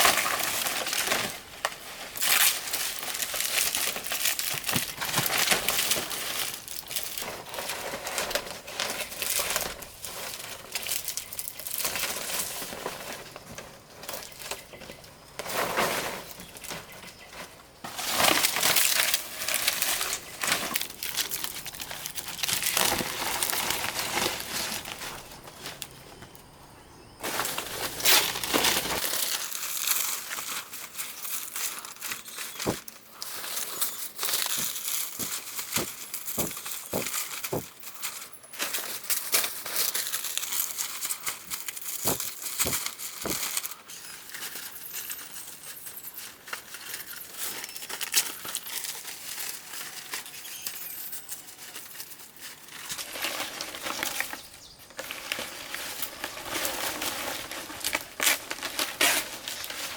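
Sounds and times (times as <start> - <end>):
crinkling rustling handling noise: 0.0 - 59.9.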